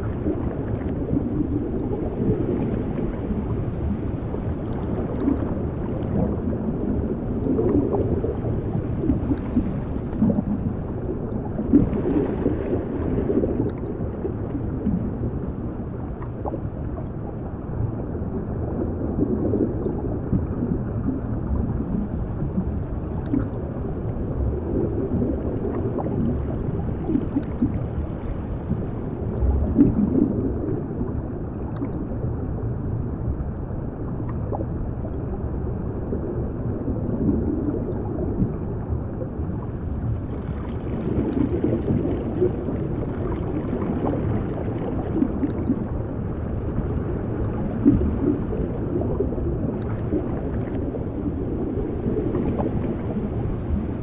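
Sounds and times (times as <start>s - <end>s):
underwater rumble of water: 0.0s - 54.0s
water bubbling and gurgling: 0.0s - 54.0s.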